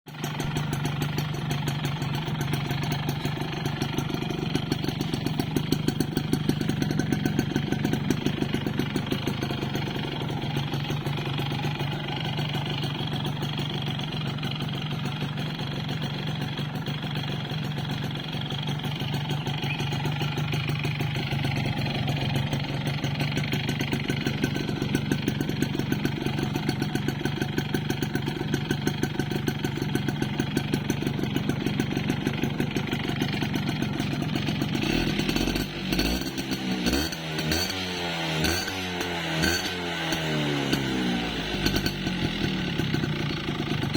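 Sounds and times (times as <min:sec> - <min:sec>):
two-stroke engine idling with knocking: 0:00.1 - 0:43.9.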